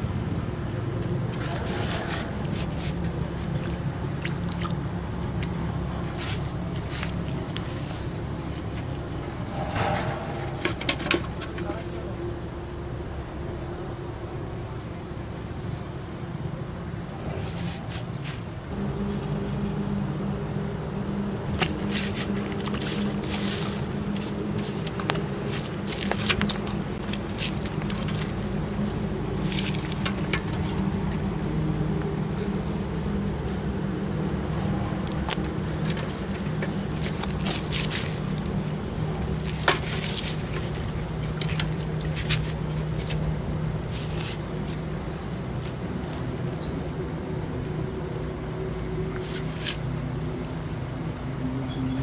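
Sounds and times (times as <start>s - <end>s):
crickets chirring: 0.0s - 52.0s.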